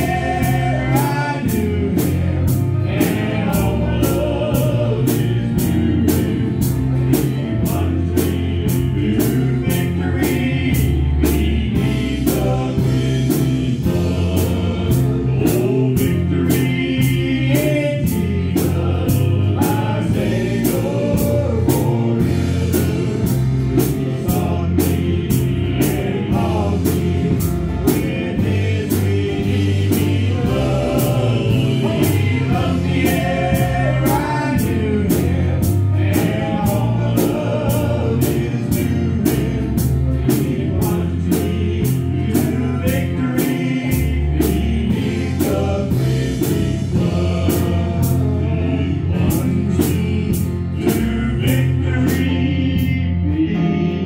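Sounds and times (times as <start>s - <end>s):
amplified accompaniment music: 0.0s - 54.0s
men singing a hymn: 0.0s - 54.0s.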